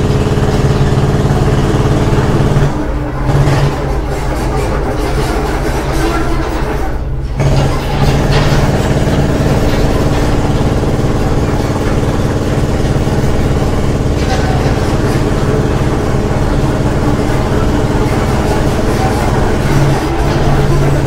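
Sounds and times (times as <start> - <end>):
machinery engine drone: 0.0 - 21.0.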